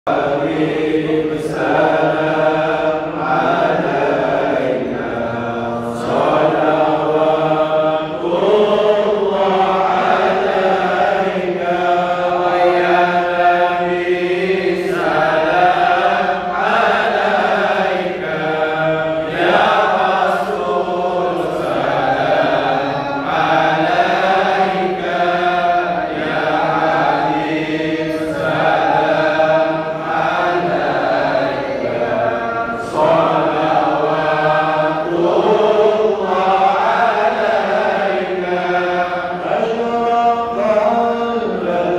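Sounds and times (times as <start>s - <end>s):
men chanting in unison: 0.1s - 41.9s.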